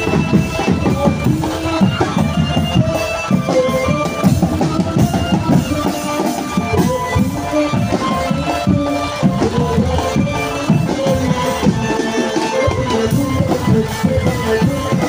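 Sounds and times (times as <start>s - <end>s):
drum band music: 0.0s - 15.0s.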